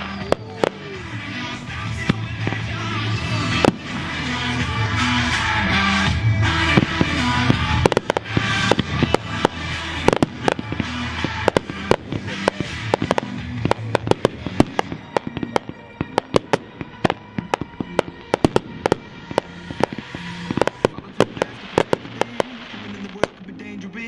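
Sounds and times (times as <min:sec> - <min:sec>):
fireworks banging: 0:00.0 - 0:24.0
music playing: 0:00.0 - 0:24.0.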